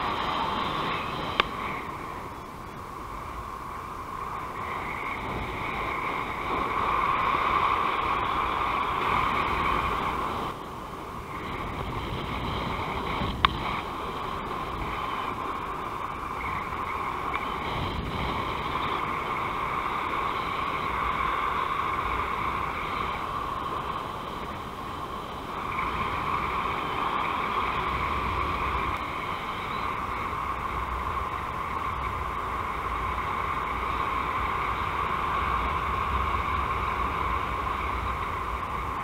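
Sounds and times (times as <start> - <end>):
wind hiss on microphone: 0.0 - 39.0.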